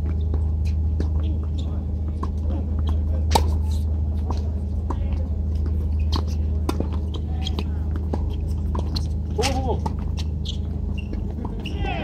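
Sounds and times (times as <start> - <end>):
tennis ball strikes and bounces: 0.0 - 11.7
steady low hum: 0.0 - 12.0.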